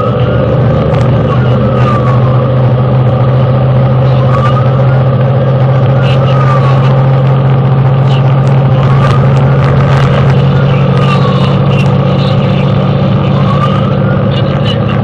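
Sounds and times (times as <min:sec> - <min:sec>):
fire engine droning inside cab: 0:00.0 - 0:15.0
siren wailing: 0:00.0 - 0:15.0.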